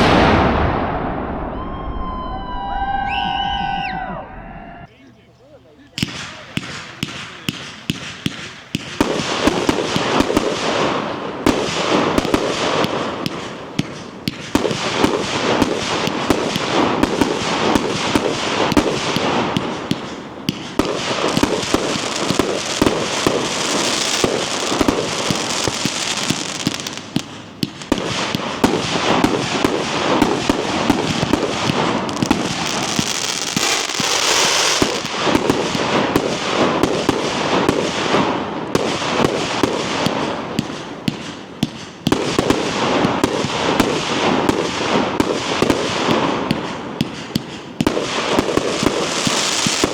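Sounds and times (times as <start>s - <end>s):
firework cake barrage: 0.0s - 49.9s.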